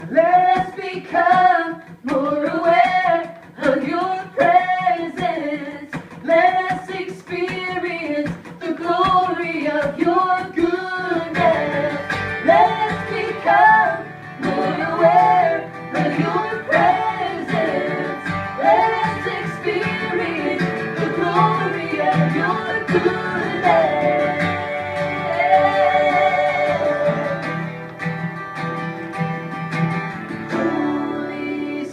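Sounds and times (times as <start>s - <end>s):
person singing: 0.0s - 27.7s, 30.5s - 31.9s
guitar accompaniment: 0.0s - 31.9s.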